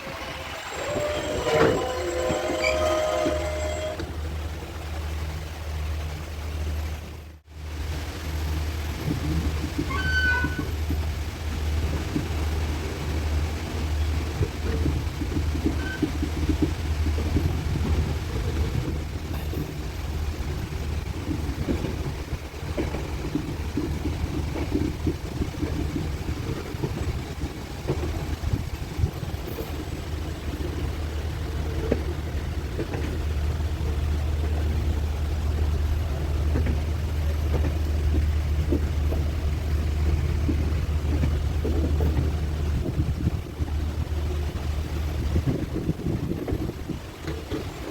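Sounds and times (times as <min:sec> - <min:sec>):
train rumbling: 0:00.0 - 0:47.9
wheels clattering on rails: 0:00.0 - 0:47.9.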